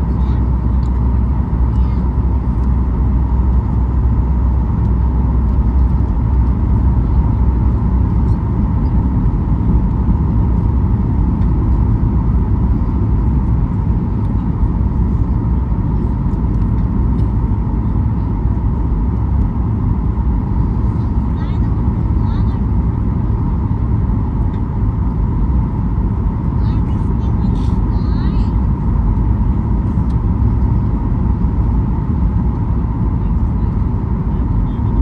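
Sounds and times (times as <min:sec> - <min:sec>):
jet engine rumble: 0:00.0 - 0:35.0
mid-pitched hum: 0:00.0 - 0:35.0.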